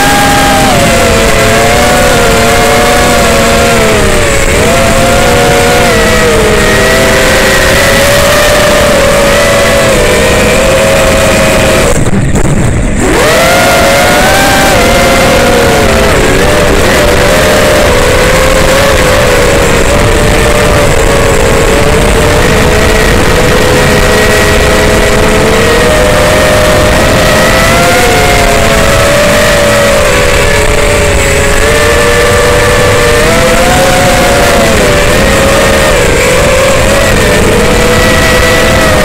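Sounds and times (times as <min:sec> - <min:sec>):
drone motors whining: 0:00.0 - 0:39.0
prop wash and wind rushing: 0:00.0 - 0:39.0.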